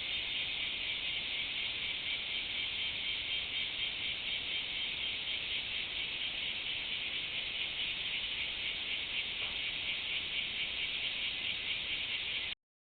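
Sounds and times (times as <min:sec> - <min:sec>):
cicadas buzzing: 0:00.0 - 0:12.6.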